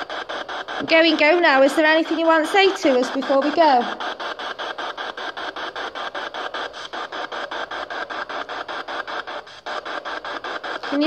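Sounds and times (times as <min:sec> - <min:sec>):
pulsing radio static: 0:00.0 - 0:11.0.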